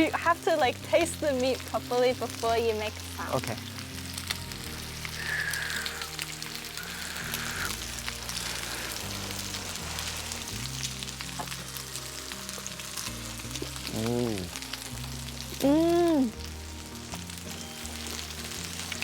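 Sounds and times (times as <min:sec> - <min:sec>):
meat sizzling on a hotplate: 0:00.0 - 0:19.0
soft background music: 0:00.0 - 0:19.0.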